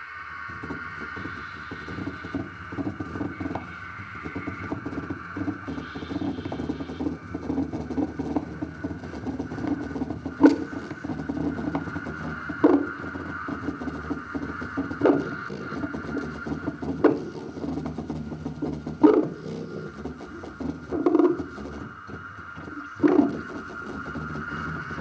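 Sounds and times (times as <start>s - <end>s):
crackling grainy texture: 0.0s - 25.0s.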